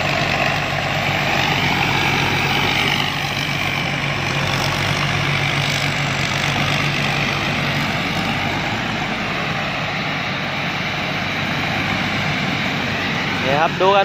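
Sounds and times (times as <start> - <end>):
combine harvester engine hum: 0.0 - 14.0
harvester rushing noise: 0.0 - 14.0.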